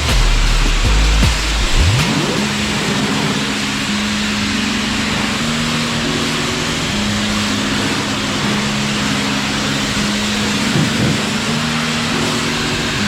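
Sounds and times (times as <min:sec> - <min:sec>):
pressure washer engine hum: 0:00.0 - 0:13.0
water jet hissing: 0:00.0 - 0:13.0.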